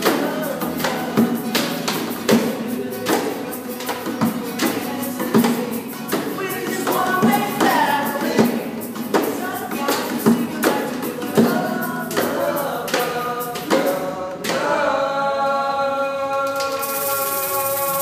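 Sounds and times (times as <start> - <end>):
tambourine jingle: 0.0 - 14.0, 16.7 - 18.0
percussive beat: 0.0 - 15.0, 16.3 - 18.0
people singing pop song: 0.0 - 18.0.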